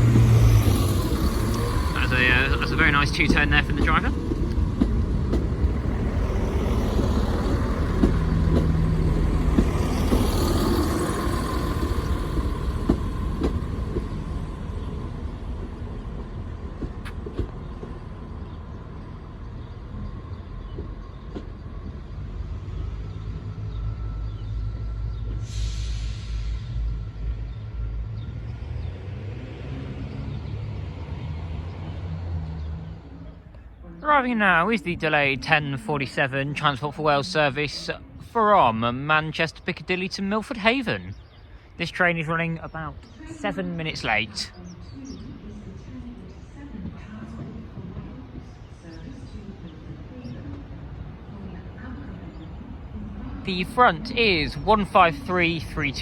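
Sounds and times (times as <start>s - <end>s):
diesel train engine rumble: 0.0s - 56.0s
diesel train pulling away: 0.0s - 56.0s.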